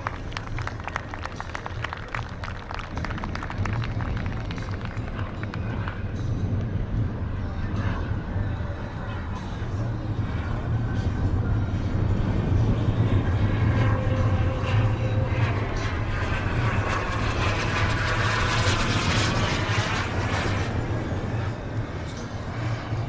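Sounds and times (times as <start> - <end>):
model jet turbines passing overhead: 0.0 - 23.0.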